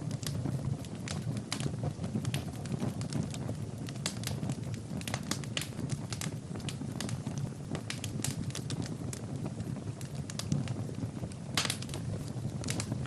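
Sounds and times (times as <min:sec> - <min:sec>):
fire crackling in fireplace: 0:00.0 - 0:13.0.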